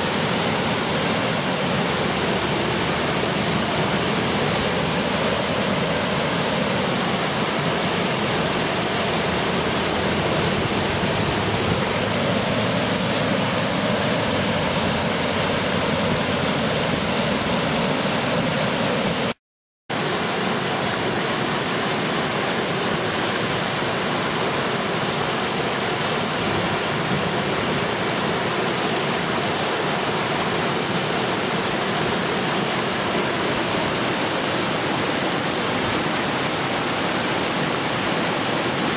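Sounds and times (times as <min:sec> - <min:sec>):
floodwater rushing over rapids: 0:00.0 - 0:38.9.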